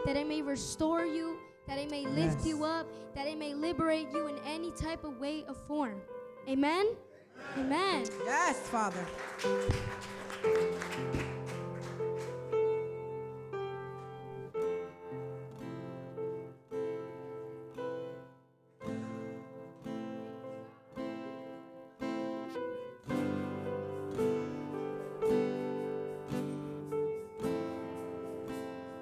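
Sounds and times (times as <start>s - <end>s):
acoustic guitar strumming: 0.0s - 18.3s, 18.9s - 29.0s.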